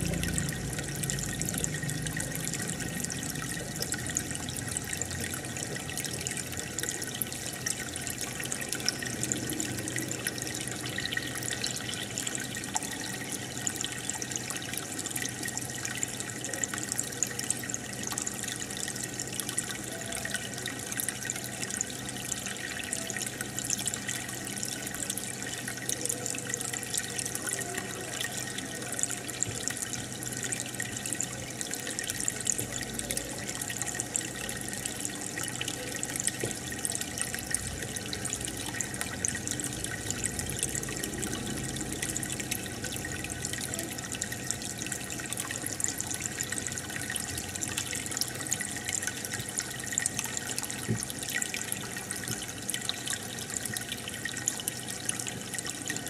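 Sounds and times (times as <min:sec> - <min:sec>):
aquarium water bubbling: 0:00.0 - 0:56.0
low steady hum: 0:00.0 - 0:56.0.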